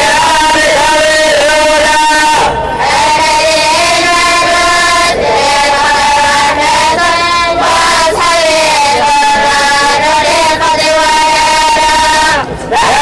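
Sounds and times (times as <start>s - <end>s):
group chanting melodic recitation: 0.0s - 13.0s.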